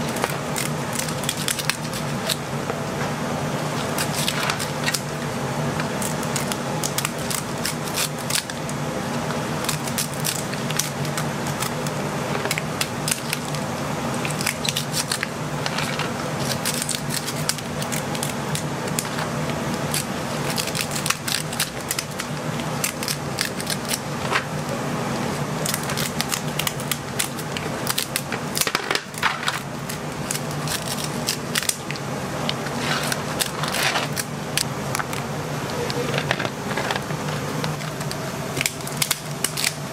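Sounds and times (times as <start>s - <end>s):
steady low hum: 0.0s - 39.9s
scissors cracking crab shells: 0.1s - 2.4s, 3.8s - 5.2s, 5.8s - 8.8s, 9.6s - 13.6s, 14.2s - 24.6s, 25.3s - 35.3s, 37.7s - 39.8s.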